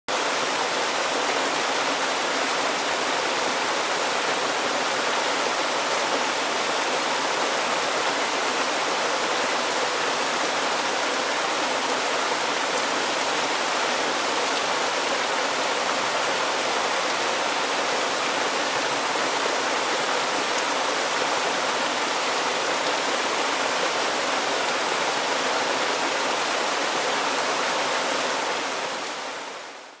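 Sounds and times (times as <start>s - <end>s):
river rushing over rocks: 0.1s - 29.9s.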